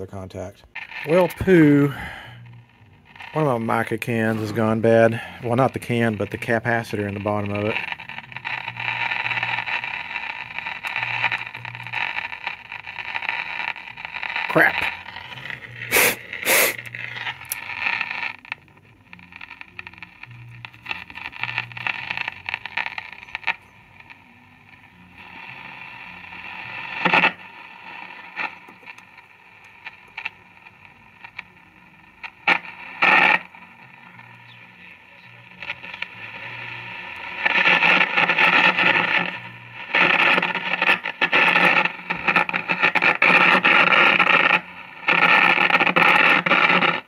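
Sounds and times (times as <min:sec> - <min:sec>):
radio static crackling: 0:00.0 - 0:47.0.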